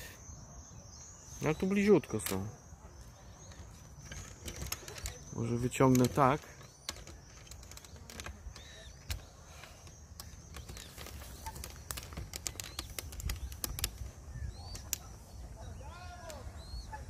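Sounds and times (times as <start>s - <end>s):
bird chicks peeping: 0.0s - 17.0s.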